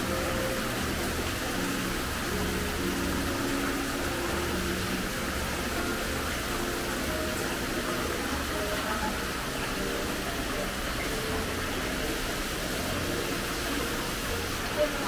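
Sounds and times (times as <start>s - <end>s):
waterfall splashing into pond: 0.0s - 15.0s.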